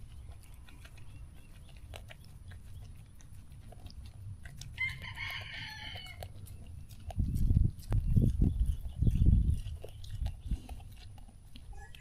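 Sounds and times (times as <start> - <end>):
animals feeding from a bowl: 0.0 - 12.0.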